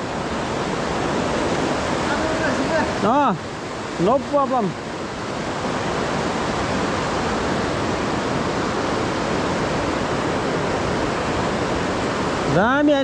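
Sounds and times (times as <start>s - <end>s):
river whitewater rushing: 0.0s - 13.0s.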